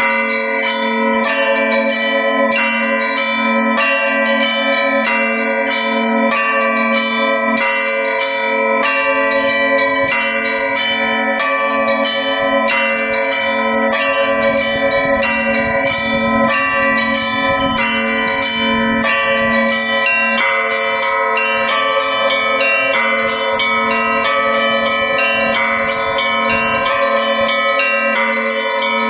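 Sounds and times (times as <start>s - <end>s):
large bell humming: 0.0s - 29.0s
small church bells ringing: 0.0s - 29.0s.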